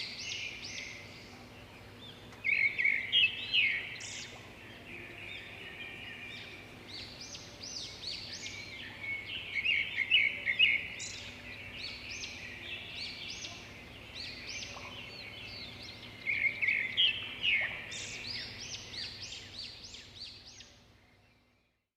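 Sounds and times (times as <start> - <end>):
birds chirping: 0.0 - 21.7.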